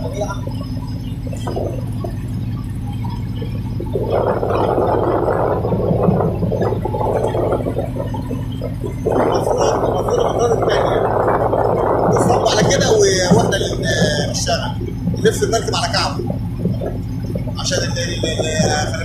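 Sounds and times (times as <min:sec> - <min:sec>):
diesel engines droning: 0:00.0 - 0:19.0
rough rushing noise: 0:00.0 - 0:19.0.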